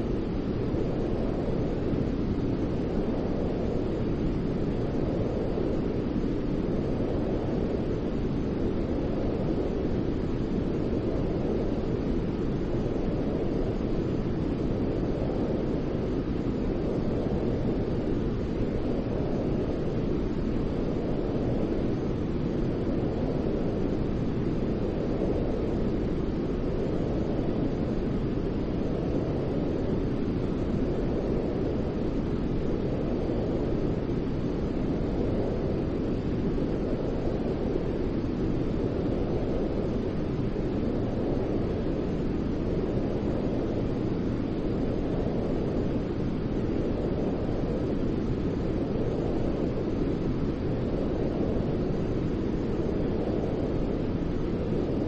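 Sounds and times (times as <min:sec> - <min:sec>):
low rumbling noise: 0:00.0 - 0:55.0
low rushing white noise: 0:00.0 - 0:55.0.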